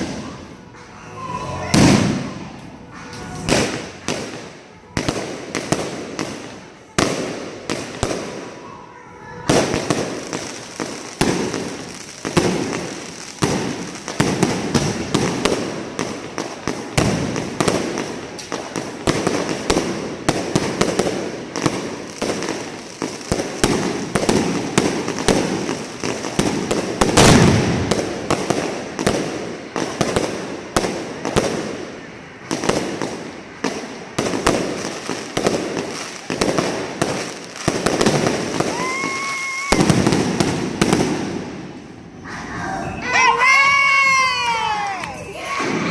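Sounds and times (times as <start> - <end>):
fireworks bangs and crackles: 0.0 - 1.0, 1.6 - 42.2, 43.2 - 45.9.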